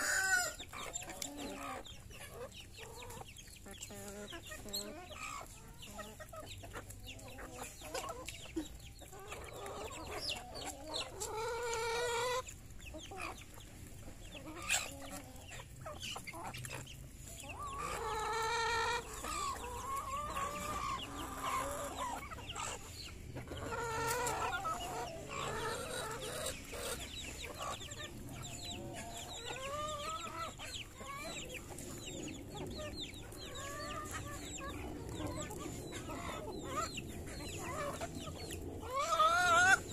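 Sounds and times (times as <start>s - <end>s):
chicks peeping: 0.0s - 39.9s
drawn-out hen calls: 0.0s - 39.9s
hens clucking: 0.0s - 39.9s.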